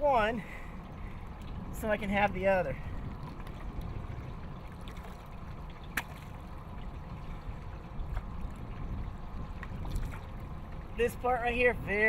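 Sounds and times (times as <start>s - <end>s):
steady low rumble: 0.0s - 12.0s
water sloshing and trickling: 0.0s - 12.0s.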